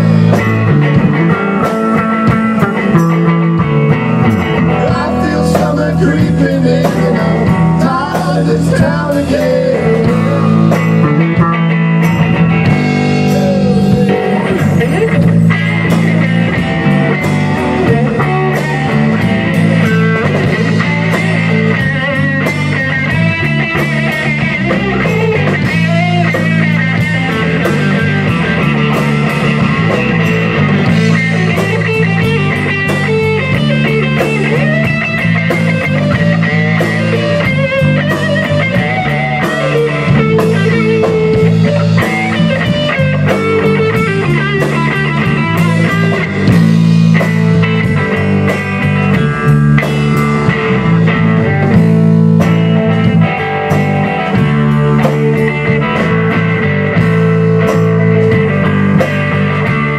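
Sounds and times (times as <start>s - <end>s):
drum kit: 0.0s - 59.9s
electric guitar: 0.0s - 59.9s
repeating bass line: 0.0s - 59.9s.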